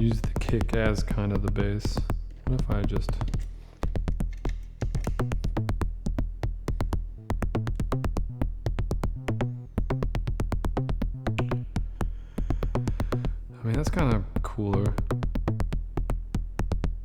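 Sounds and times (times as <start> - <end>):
deep synthesized kick: 0.0 - 17.0
sharp ticking hits: 0.0 - 17.0.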